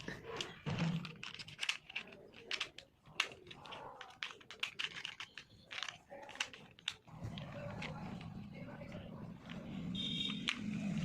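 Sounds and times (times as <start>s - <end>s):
toy parts clicking and tapping: 0.0s - 11.0s.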